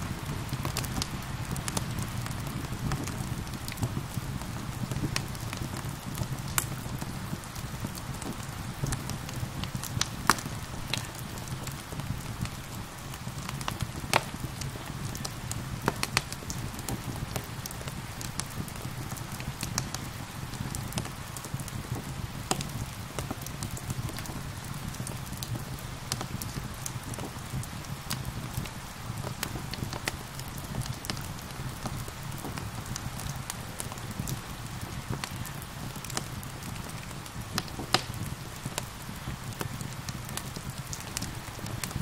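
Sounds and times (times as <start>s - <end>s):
rain hiss: 0.0s - 42.0s
wood fire crackling: 0.0s - 42.0s.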